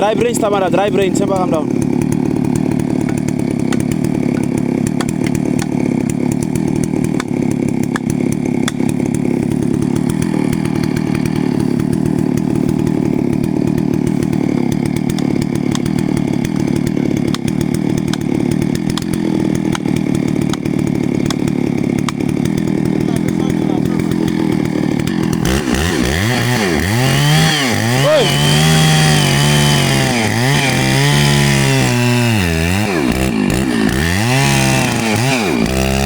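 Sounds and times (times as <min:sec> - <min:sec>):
chainsaw cutting tree trunk: 0:00.0 - 0:36.0.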